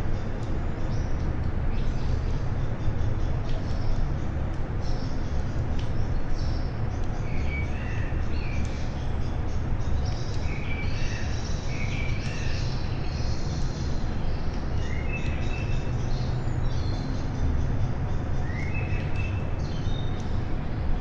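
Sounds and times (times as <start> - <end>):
low outdoor rumble and hiss: 0.0 - 21.0
songbirds chirping: 0.0 - 21.0.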